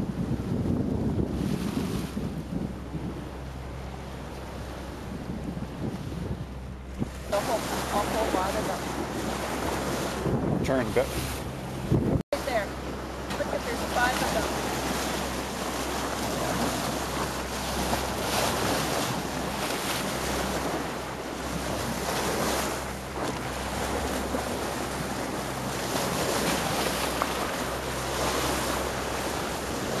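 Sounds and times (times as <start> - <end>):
sea water splashing along boat: 0.0 - 30.0
wind buffeting microphone: 0.0 - 30.0.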